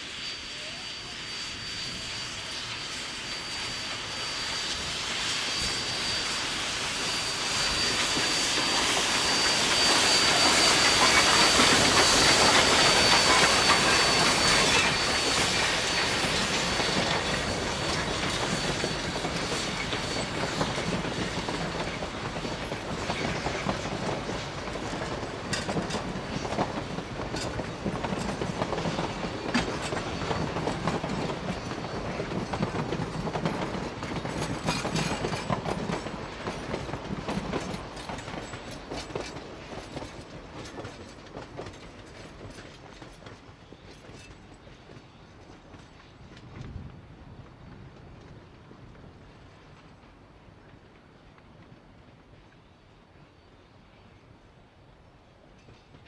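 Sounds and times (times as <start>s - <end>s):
steam locomotive hissing steam: 0.0s - 45.8s
train wheels clicking over rail joints: 4.8s - 52.7s, 55.4s - 56.0s.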